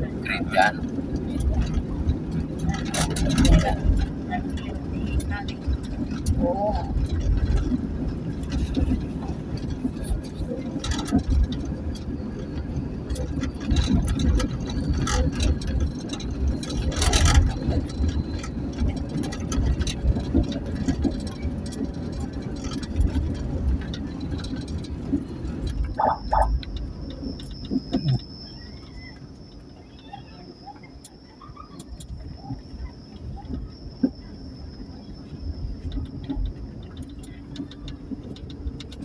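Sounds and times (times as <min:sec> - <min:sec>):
vehicle engine and tyres rumbling: 0:00.0 - 0:39.0.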